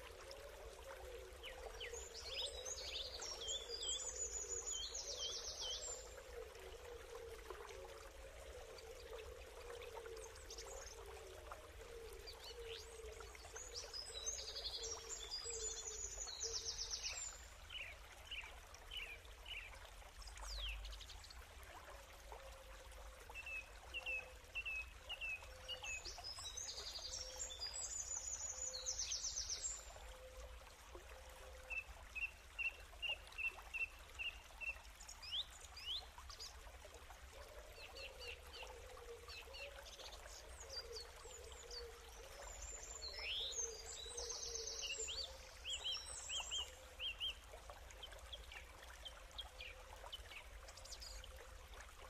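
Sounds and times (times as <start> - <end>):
faint background hiss: 0.0 - 52.0.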